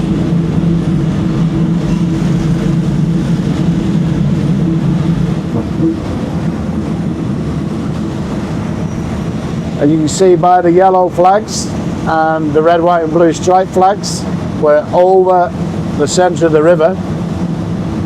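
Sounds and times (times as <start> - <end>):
low droning hum: 0.0 - 18.0
train rumble inside carriage: 0.0 - 18.0.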